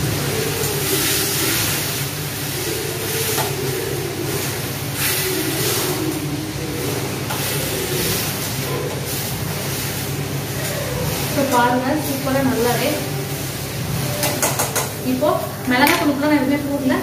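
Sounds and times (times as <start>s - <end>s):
droning hum: 0.0s - 17.0s.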